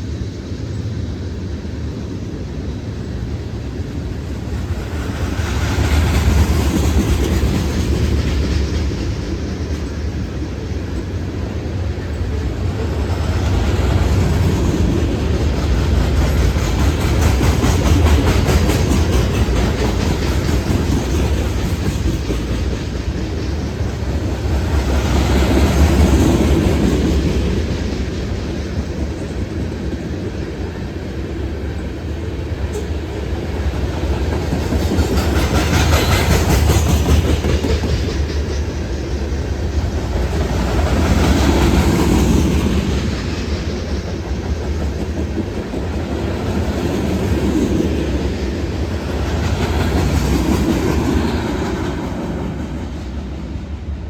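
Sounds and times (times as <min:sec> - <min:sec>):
freight train rumbling past: 0:00.0 - 0:54.0
wheels clicking over rail joints: 0:03.8 - 0:53.2.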